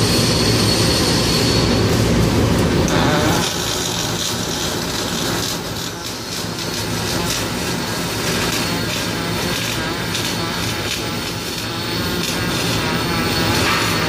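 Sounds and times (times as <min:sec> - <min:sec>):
factory floor drone: 0:00.0 - 0:14.0
welding arc crackling: 0:00.0 - 0:14.0.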